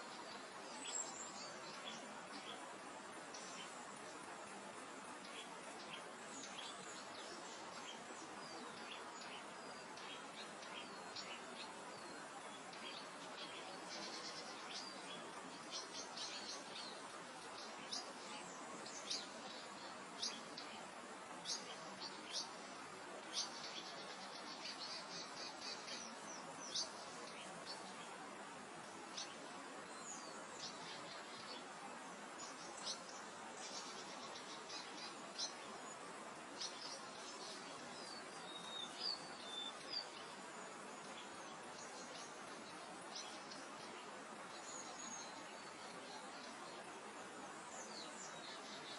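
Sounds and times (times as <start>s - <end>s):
small birds chirping: 0.0s - 48.9s
soft meadow wind: 0.0s - 48.9s.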